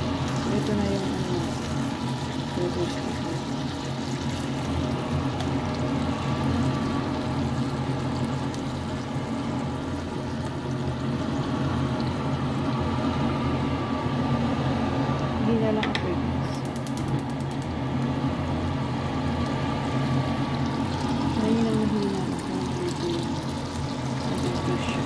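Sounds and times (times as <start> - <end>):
burger patties sizzling: 0.0 - 13.6, 16.5 - 25.0.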